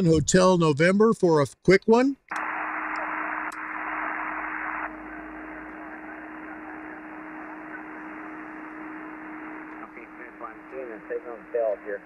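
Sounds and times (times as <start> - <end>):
radio static hiss: 2.3 - 12.0.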